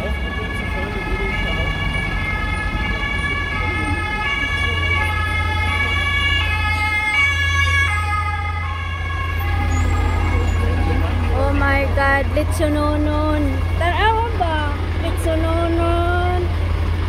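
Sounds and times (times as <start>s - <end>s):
two-tone emergency siren: 0.0s - 15.8s
vehicle engine rumbling: 0.0s - 17.0s.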